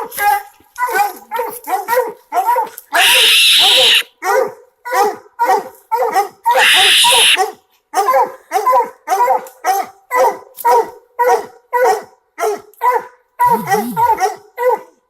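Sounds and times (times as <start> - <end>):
hound barking: 0.0 - 15.0.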